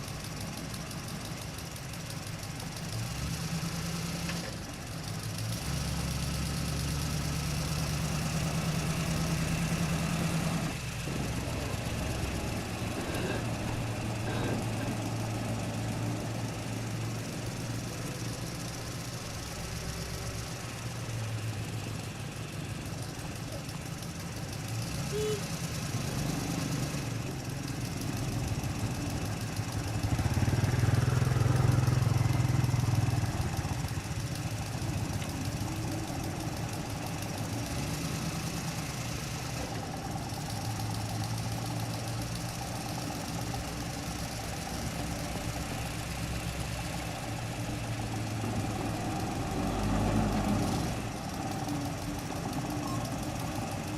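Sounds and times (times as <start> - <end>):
truck diesel engine running: 0.0 - 53.9.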